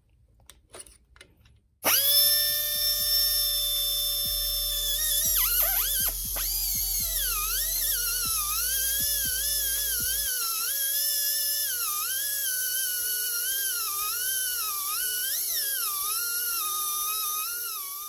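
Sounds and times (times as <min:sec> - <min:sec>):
die grinder whining while cutting: 0:01.8 - 0:18.0.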